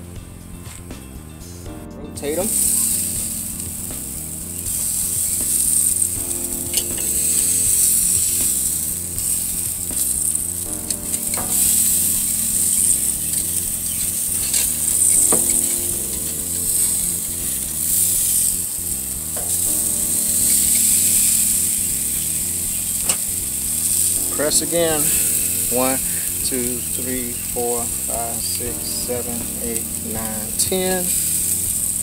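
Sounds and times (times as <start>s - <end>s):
steaks sizzling on a grill: 2.4s - 32.0s.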